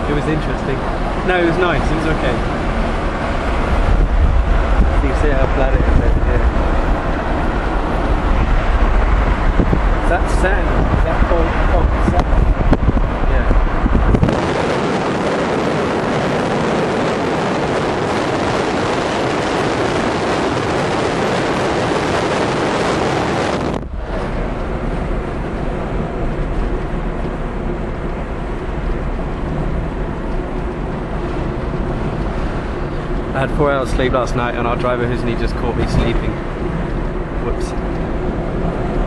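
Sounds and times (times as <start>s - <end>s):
car wind and road noise: 0.0s - 39.0s.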